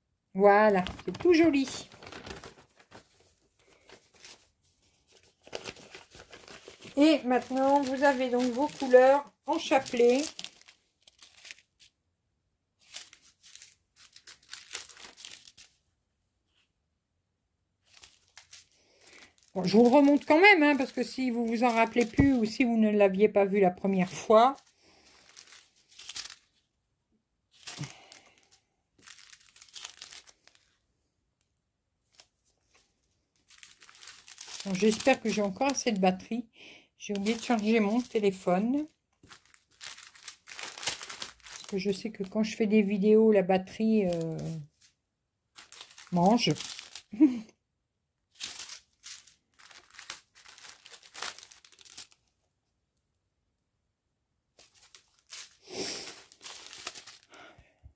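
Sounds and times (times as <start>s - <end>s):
plastic packets crinkling: 0.6s - 11.9s, 12.8s - 15.8s, 17.8s - 26.6s, 27.5s - 30.8s, 32.0s - 36.4s, 37.0s - 44.9s, 45.5s - 47.4s, 48.3s - 52.3s, 54.6s - 57.5s.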